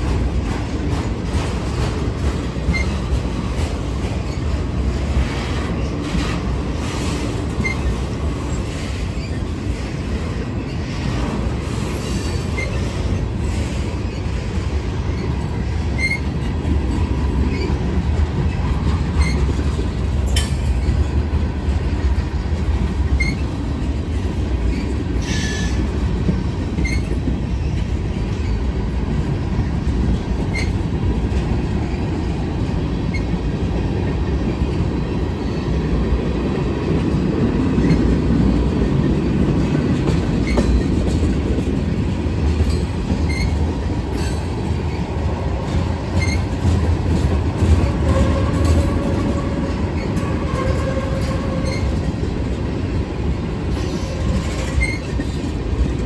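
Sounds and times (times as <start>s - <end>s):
freight train cars rumbling past: 0.0s - 56.0s.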